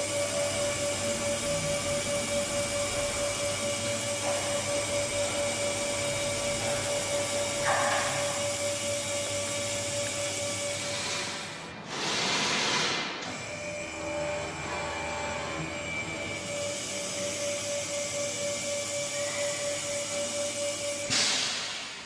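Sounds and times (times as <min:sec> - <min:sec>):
hydraulic motor whine: 0:00.0 - 0:22.0.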